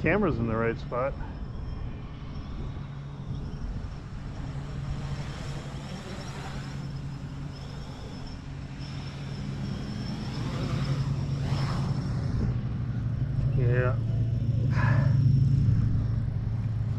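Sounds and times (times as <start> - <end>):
quadcopter propellers humming: 0.0 - 16.9
thin high whine: 0.0 - 16.9.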